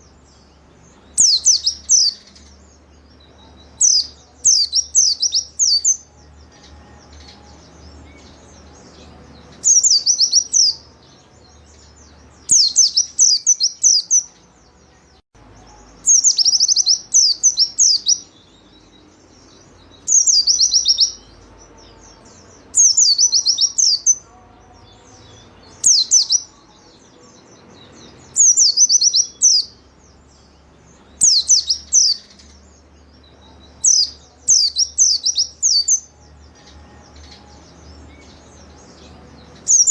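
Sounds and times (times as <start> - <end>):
bird singing rapid falling notes: 0.0 - 39.9.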